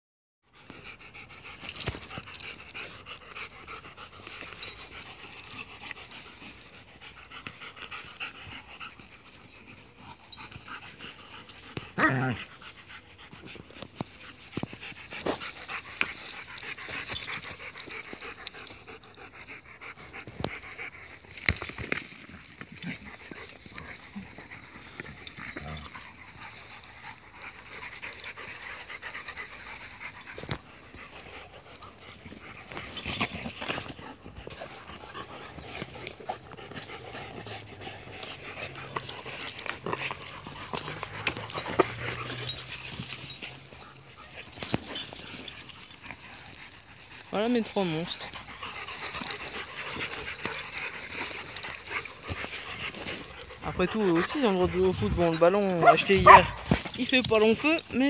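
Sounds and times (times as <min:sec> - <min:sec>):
dogs panting: 0:00.5 - 0:58.0.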